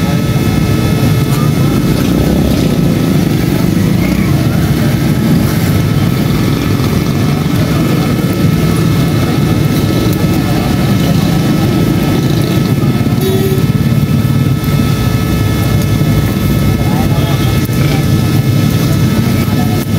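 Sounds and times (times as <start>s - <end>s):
faint steady tones: 0.0s - 19.7s
low mechanical rumble: 0.0s - 19.9s.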